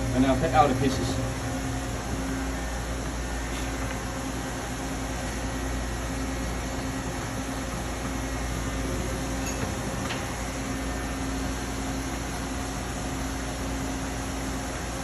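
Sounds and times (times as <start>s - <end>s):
shop machinery hum and hiss: 0.0s - 15.0s.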